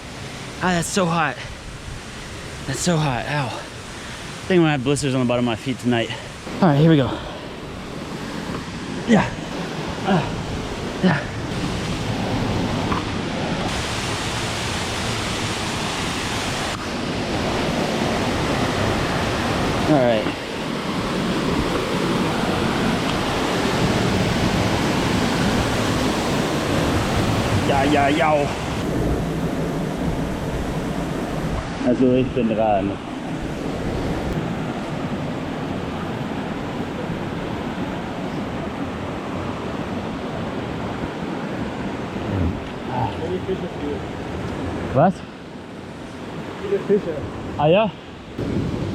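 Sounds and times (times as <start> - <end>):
waterfall roaring: 2.7 - 45.0.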